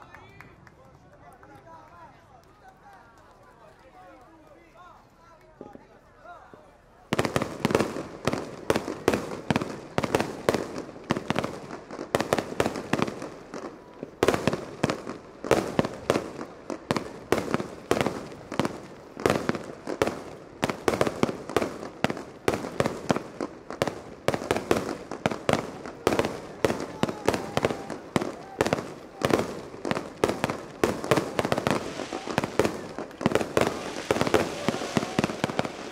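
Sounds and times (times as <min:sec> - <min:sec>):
fireworks bangs: 0:07.1 - 0:35.9.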